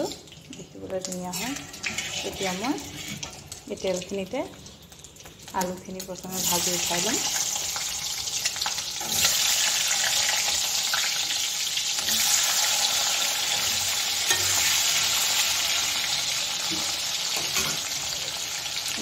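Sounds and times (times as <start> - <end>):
potatoes frying in hot oil: 0.0 - 19.0.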